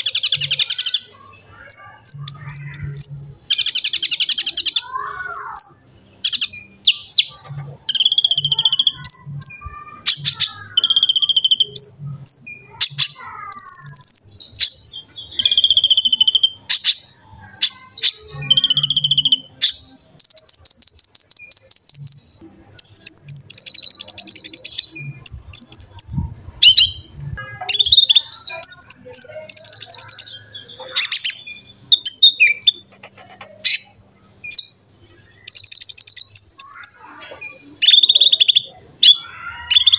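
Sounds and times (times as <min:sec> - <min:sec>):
sunbird twittering and trilling: 0:00.0 - 0:39.9.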